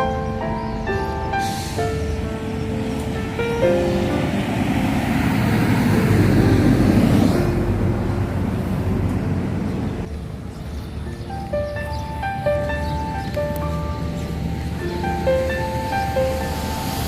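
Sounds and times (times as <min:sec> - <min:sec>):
vehicle passing by: 0:00.8 - 0:10.5, 0:12.1 - 0:17.0.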